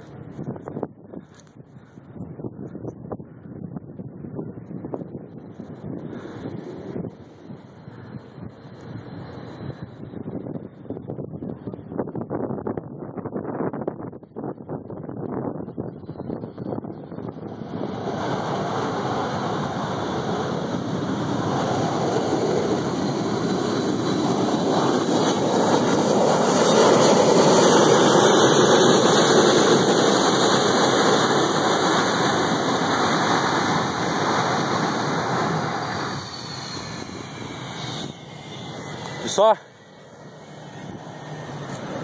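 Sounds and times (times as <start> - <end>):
jet engines at high power: 0.0 - 42.0.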